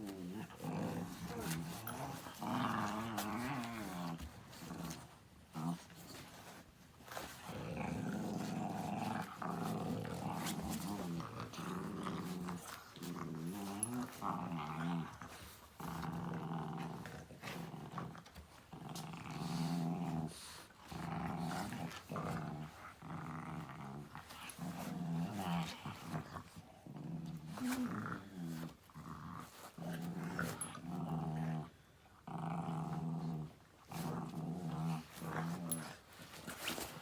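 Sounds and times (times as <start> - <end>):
dog growling: 0.0 - 37.0.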